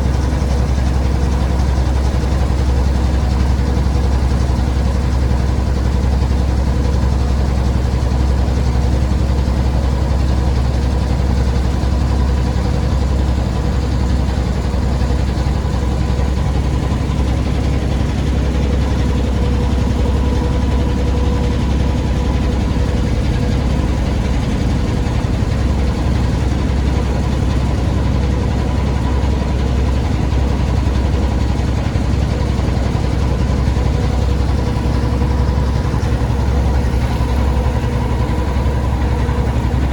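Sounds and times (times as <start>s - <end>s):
motor engine idling: 0.0s - 39.9s.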